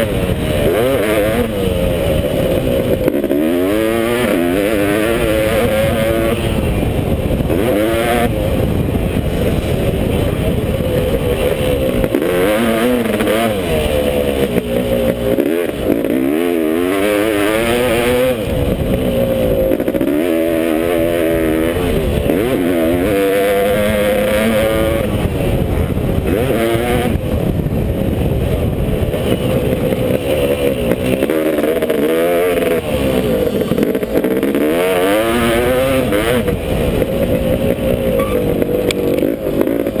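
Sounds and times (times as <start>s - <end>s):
motocross engine revving: 0.0s - 40.0s.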